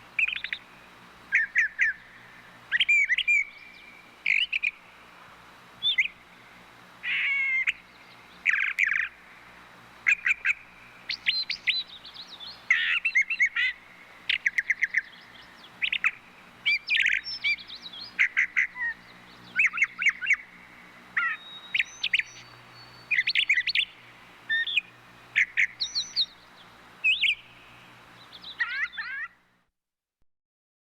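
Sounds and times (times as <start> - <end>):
thrushes singing: 0.0 - 5.2, 5.8 - 29.4.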